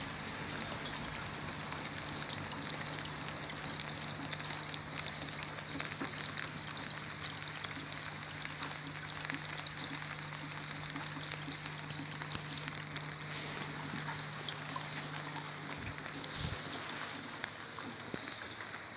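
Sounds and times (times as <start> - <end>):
rain drops on pond water: 0.0 - 18.9
water trickling into pond: 0.0 - 18.9.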